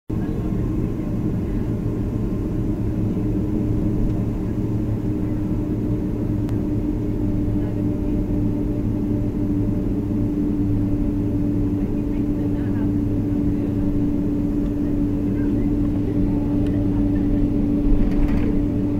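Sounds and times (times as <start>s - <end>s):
jet engines rumbling: 0.1s - 18.9s.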